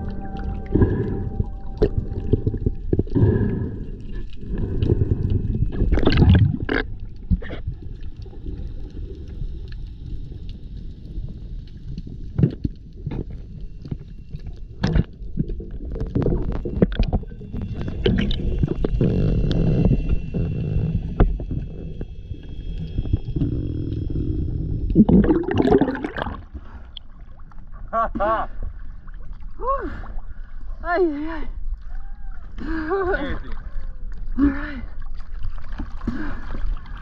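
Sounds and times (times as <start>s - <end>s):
water gurgles: 0.0s - 30.0s, 32.7s - 37.0s
muffled underwater water rumble: 0.0s - 37.0s.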